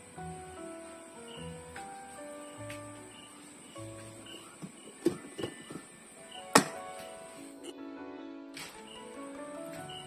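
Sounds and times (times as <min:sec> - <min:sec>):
slow background music: 0:00.0 - 0:10.0.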